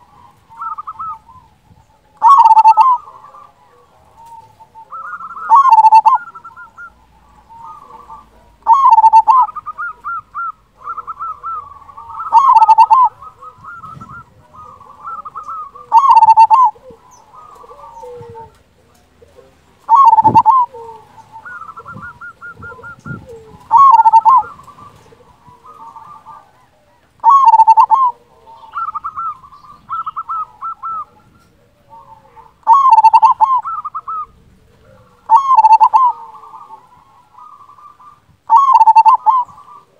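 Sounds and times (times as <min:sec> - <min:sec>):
dove cooing song: 0:00.0 - 0:39.9
softer trilled coos: 0:00.0 - 0:39.9.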